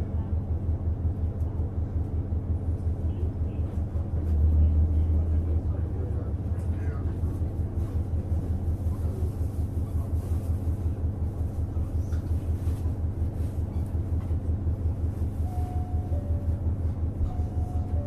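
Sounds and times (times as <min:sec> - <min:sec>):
diesel railcar engine rumble: 0:00.0 - 0:18.0.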